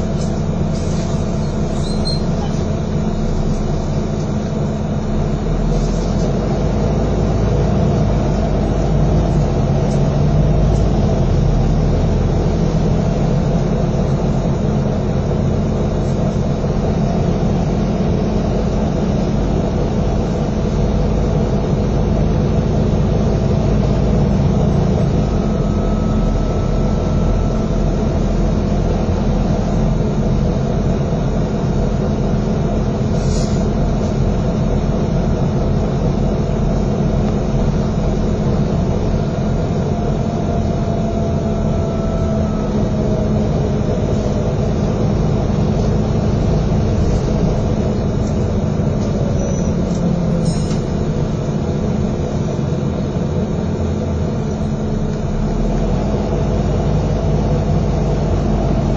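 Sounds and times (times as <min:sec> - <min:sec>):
bus engine drone: 0:00.0 - 0:58.9
road rumble: 0:00.0 - 0:58.9.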